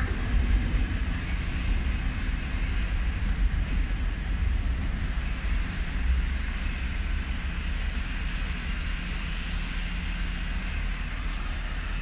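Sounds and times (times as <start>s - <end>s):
diesel locomotive engines droning: 0.0s - 12.0s.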